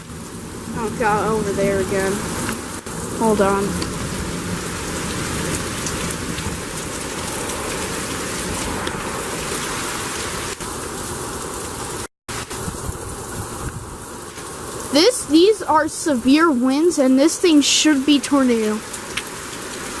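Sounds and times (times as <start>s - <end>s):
gusty wind: 0.0s - 18.7s
heavy rain pouring: 0.0s - 20.0s.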